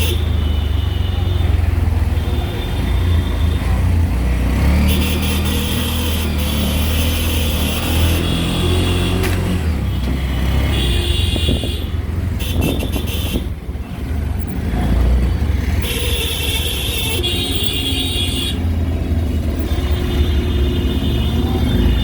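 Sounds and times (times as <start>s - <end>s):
auto-rickshaw engine humming: 0.0s - 22.0s
street traffic noise: 0.0s - 22.0s.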